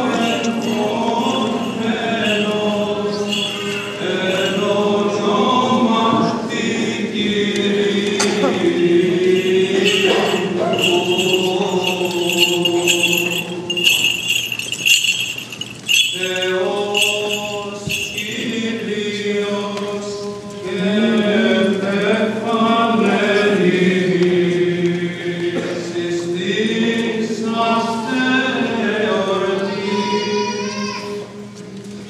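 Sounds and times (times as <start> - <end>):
voices chanting long notes: 0.0 - 31.9.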